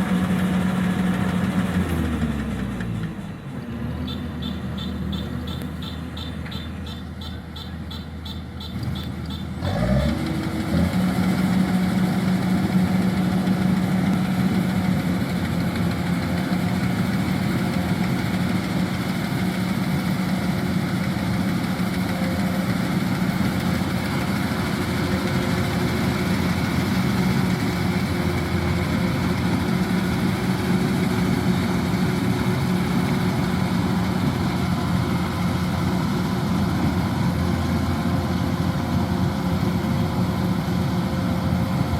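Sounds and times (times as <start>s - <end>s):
diesel engine spinning up and droning: 0.0s - 41.9s.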